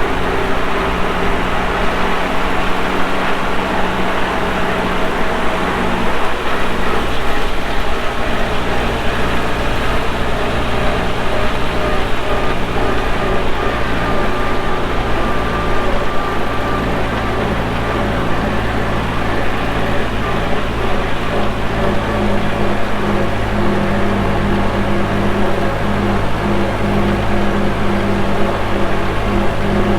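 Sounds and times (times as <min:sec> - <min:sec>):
tractor engine droning: 0:00.0 - 0:29.9.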